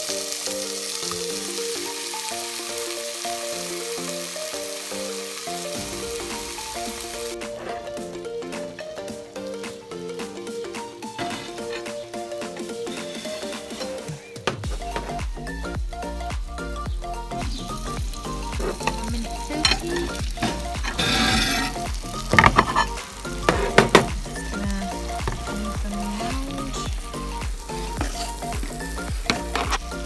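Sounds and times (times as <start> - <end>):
background music: 0.0 - 30.0
burger patties sizzling: 0.0 - 30.0.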